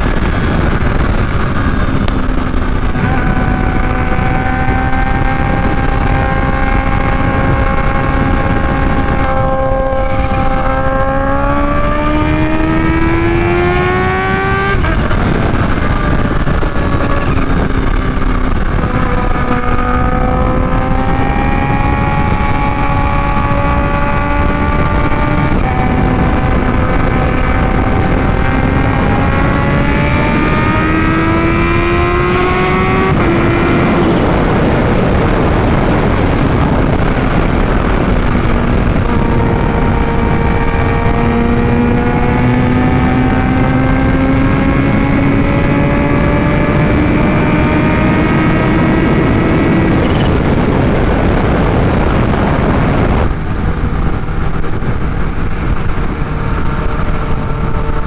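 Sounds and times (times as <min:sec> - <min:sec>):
motorcycle engine pulling: 0:00.0 - 0:58.0
wind rush: 0:00.0 - 0:58.0.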